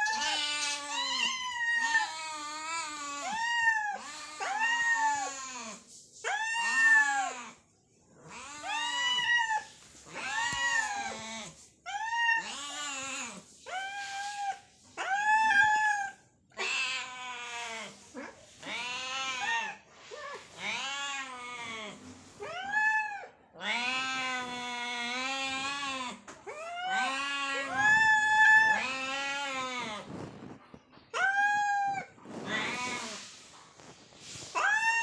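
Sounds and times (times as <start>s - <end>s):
cats meowing: 0.0s - 7.6s, 8.2s - 33.4s, 34.3s - 35.0s.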